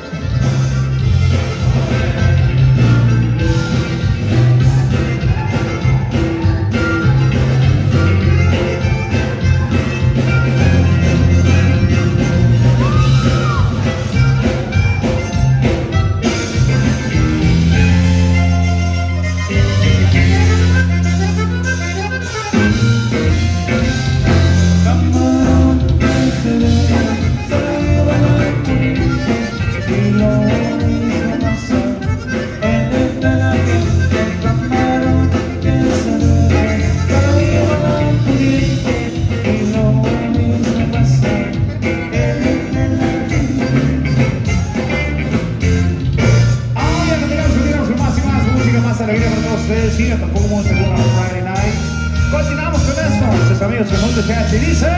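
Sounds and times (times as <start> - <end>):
bass: 0.0 - 54.9
button accordion: 0.0 - 54.9
drums: 0.0 - 54.9
electric guitar: 0.0 - 54.9.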